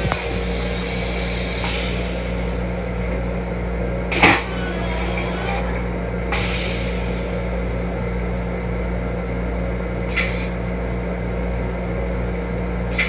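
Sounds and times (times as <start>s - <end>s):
railcar equipment hum: 0.0s - 13.0s.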